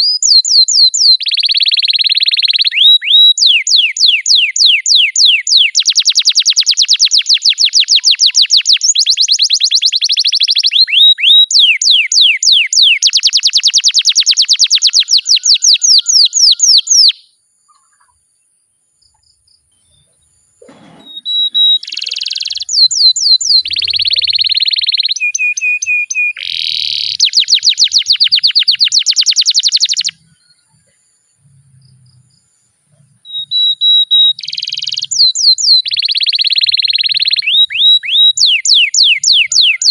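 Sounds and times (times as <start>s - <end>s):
canary singing rolling trills: 0.0s - 39.9s.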